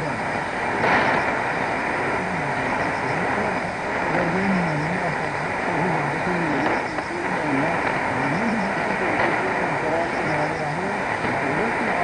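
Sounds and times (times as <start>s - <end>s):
faint wavering radio voice: 0.0s - 12.0s
radio static hiss: 0.0s - 12.0s.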